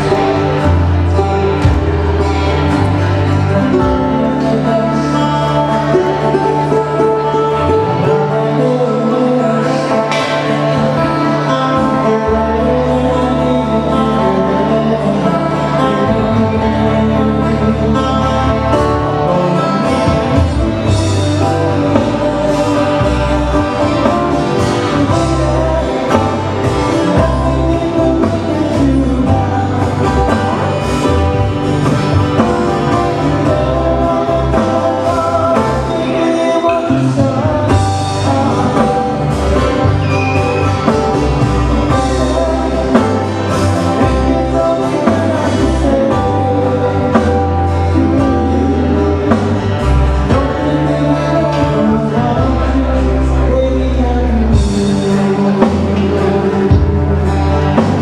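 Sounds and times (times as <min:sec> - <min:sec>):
bass line: 0:00.0 - 0:58.0
person singing: 0:00.0 - 0:58.0
plucked string guitars: 0:00.0 - 0:58.0.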